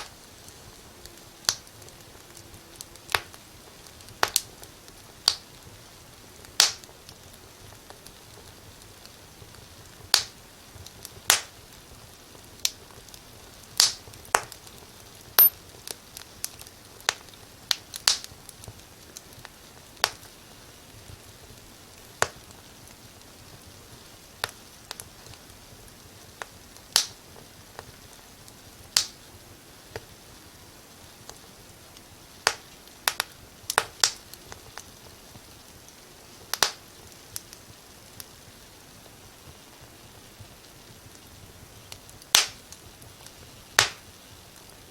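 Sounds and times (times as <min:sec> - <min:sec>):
faint steady hiss: 0:00.0 - 0:44.9
wood fire crackling: 0:00.0 - 0:44.9.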